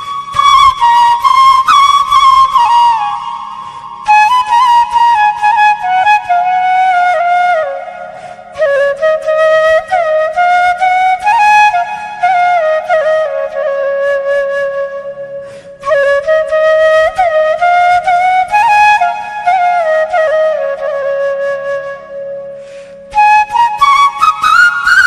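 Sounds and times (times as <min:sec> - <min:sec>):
bamboo flute melody: 0:00.0 - 0:25.0.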